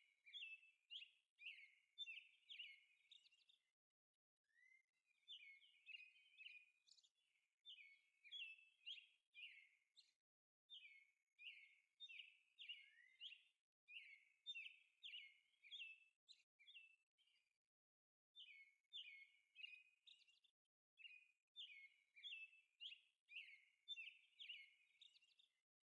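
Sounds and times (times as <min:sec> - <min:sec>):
faint birdsong chirps and whistles: 0:00.0 - 0:03.8, 0:04.5 - 0:17.6, 0:18.3 - 0:25.9.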